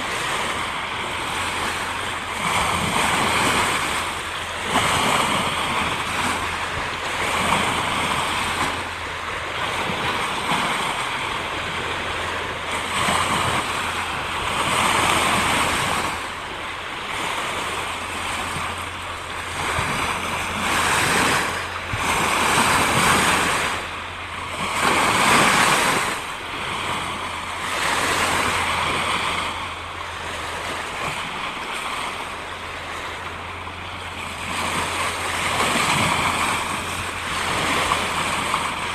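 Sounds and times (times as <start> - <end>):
ocean waves washing in: 0.0 - 38.9.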